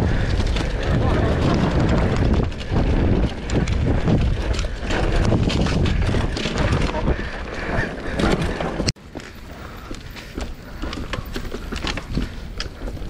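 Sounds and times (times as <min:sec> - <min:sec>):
bike clattering over dirt trail: 0:00.0 - 0:13.0
wind buffeting microphone: 0:00.0 - 0:13.0.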